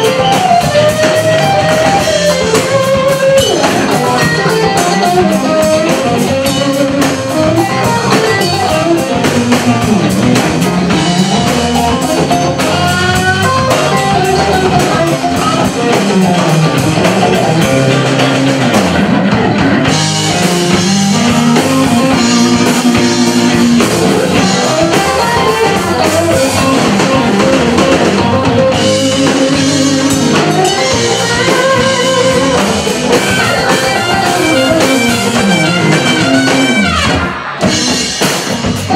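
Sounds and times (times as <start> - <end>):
bass: 0.0 - 38.9
drum kit steady beat: 0.0 - 38.9
electric guitar: 0.0 - 38.9.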